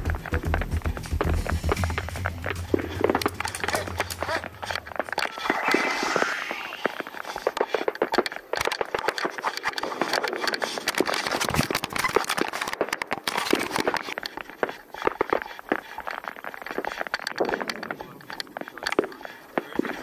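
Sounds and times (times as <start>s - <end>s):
airsoft gunfire popping: 0.0s - 20.0s.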